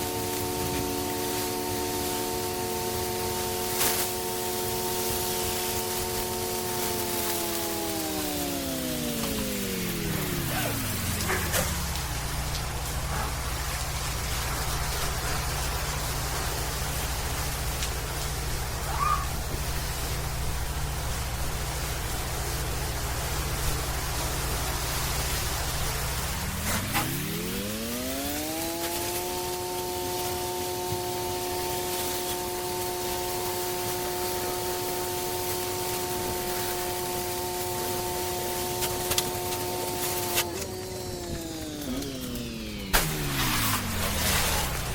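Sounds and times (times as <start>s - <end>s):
pressure washer engine humming: 0.0s - 44.9s
steady hiss: 0.0s - 44.9s.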